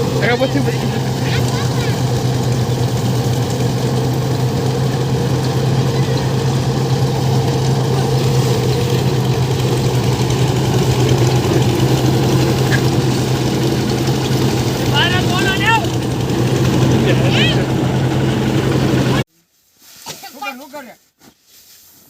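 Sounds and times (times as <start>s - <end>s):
thresher machine engine drone: 0.0s - 19.2s.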